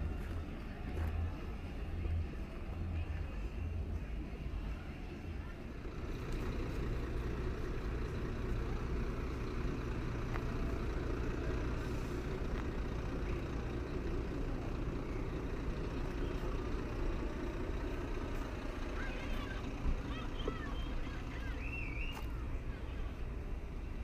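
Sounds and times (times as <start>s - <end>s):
heavy truck engine rumbling: 0.0s - 24.0s.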